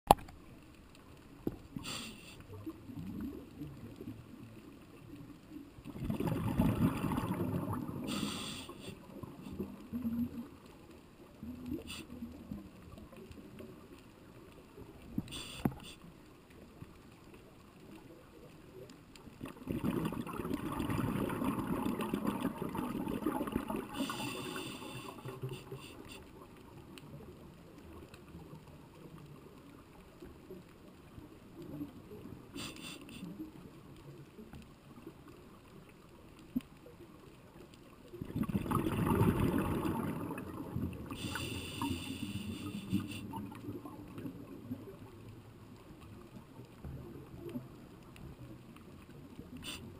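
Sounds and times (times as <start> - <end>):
underwater bubbling and gurgling: 0.1 - 49.9.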